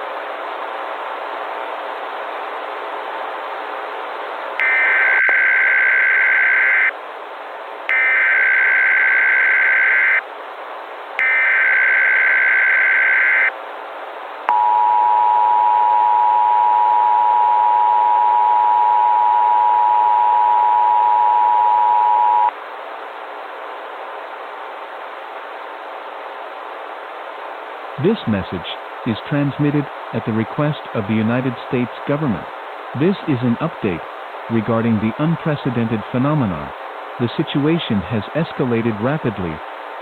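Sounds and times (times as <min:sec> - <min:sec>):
constant broadcast hiss: 0:00.0 - 0:40.0.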